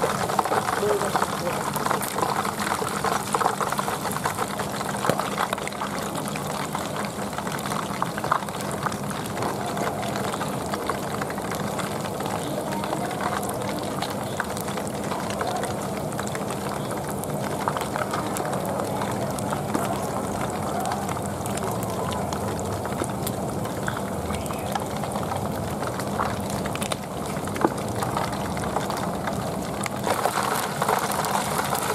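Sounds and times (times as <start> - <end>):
oil sizzling with crackles: 0.0 - 31.9.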